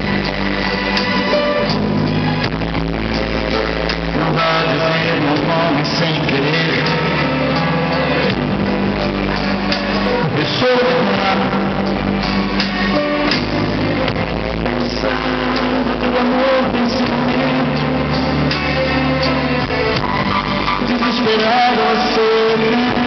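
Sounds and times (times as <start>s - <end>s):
live band with acoustic guitar: 0.0s - 23.0s.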